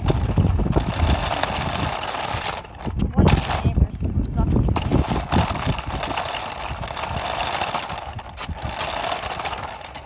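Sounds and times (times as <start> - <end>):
toy car motor whirring: 0.0 - 3.8, 4.6 - 10.0.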